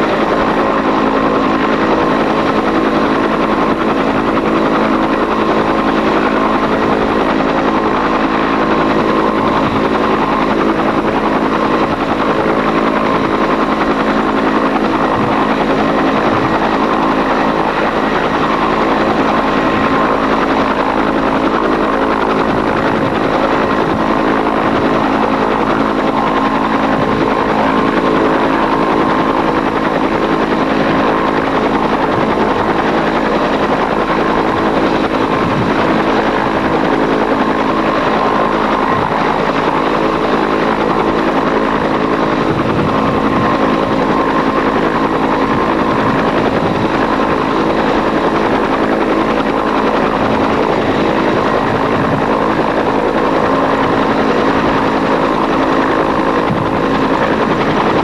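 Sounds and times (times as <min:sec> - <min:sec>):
helicopter turbine whine and rotor: 0:00.0 - 0:58.0.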